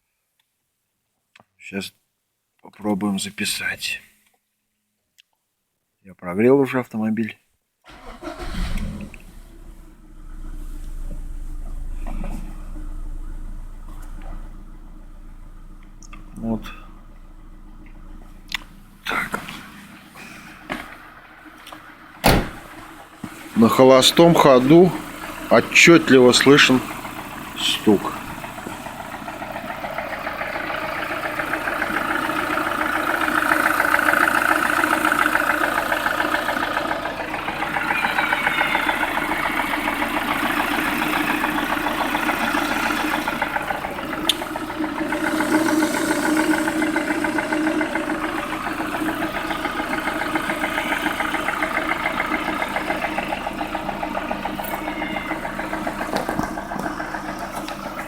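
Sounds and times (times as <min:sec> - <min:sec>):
car engine idling with knock: 0:09.1 - 0:58.0.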